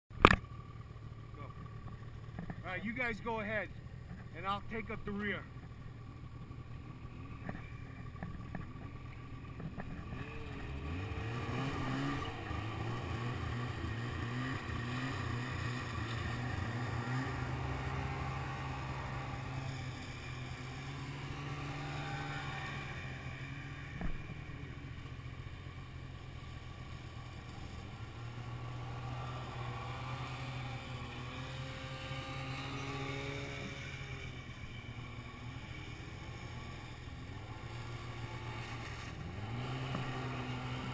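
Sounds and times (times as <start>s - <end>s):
snowmobile engines running: 0.2s - 40.9s.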